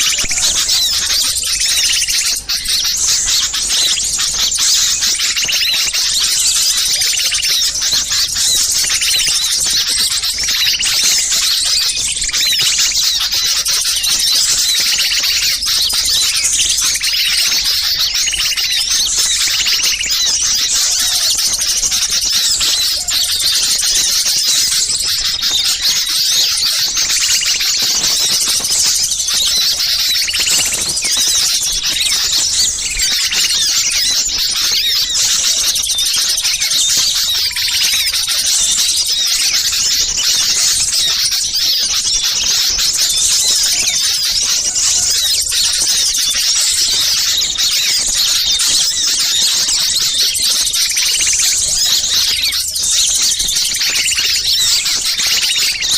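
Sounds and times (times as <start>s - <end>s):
songbirds chattering and calling: 0.0s - 55.9s.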